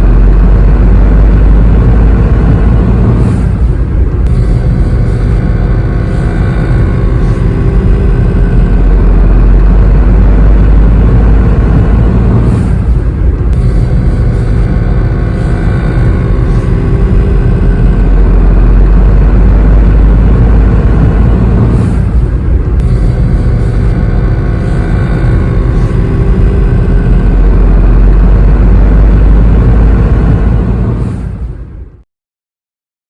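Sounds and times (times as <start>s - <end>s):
buzzing rattle: 0.0s - 31.5s
car engine and road rumble: 0.0s - 32.0s.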